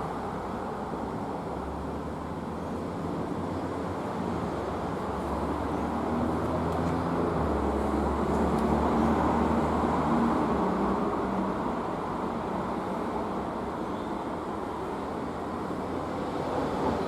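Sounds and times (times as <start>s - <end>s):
road traffic with engine hum: 0.0s - 17.0s.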